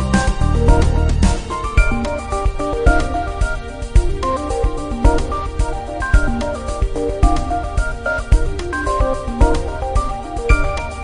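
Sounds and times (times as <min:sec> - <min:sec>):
instrumental music with plucked notes: 0:00.0 - 0:11.0.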